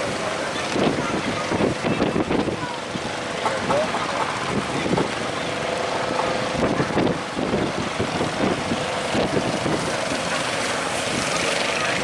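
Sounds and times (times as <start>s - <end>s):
boat engine running: 0.0s - 12.0s
surf: 0.0s - 12.0s
wind: 0.0s - 12.0s.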